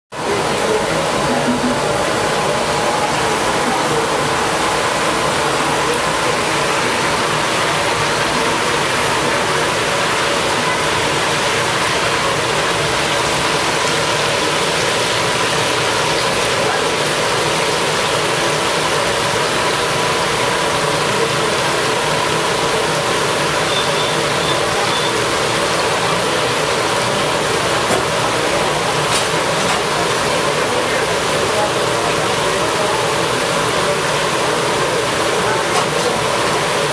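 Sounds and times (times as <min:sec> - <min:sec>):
chicken sizzling in hot oil: 0:00.2 - 0:36.9.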